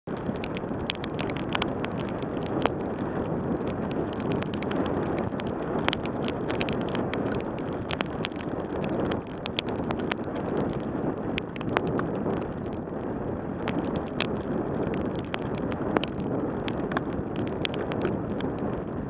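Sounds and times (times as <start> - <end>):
small sharp ticks: 0.1 - 12.5, 13.6 - 18.7
bicycle tyres on wet road: 0.1 - 19.0
wind on microphone: 0.1 - 19.0.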